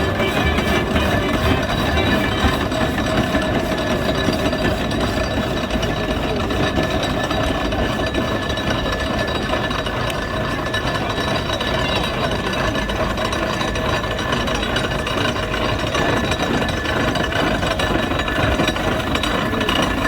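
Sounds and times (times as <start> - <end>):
steam engine mechanical clatter: 0.0 - 20.0.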